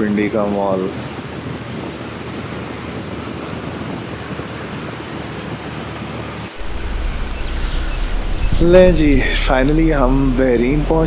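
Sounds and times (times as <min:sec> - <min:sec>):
motorcycle road and engine noise: 0:00.0 - 0:11.0
wind rushing on microphone: 0:00.0 - 0:11.0.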